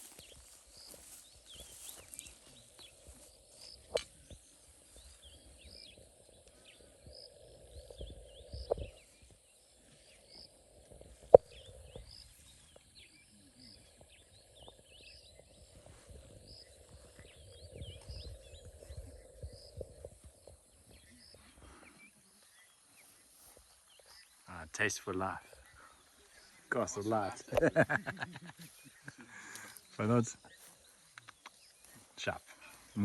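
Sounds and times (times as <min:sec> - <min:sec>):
bird chirps: 0:00.0 - 0:33.0
insect chorus: 0:00.0 - 0:33.0.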